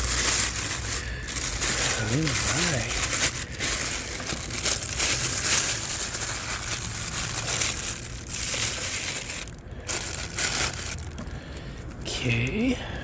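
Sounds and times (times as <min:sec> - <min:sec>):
plastic packaging crinkling: 0:00.0 - 0:11.5.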